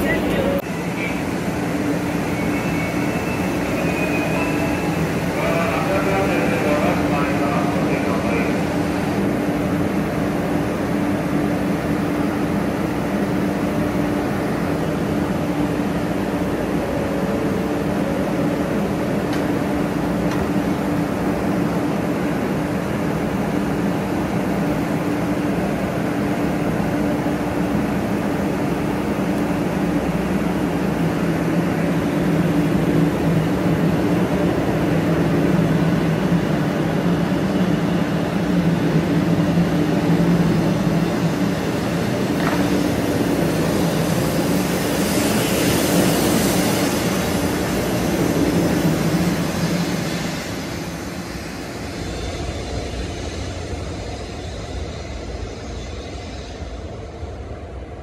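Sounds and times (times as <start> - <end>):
train electrical hum: 0.0 - 58.0
train wheel and air rush: 0.0 - 58.0.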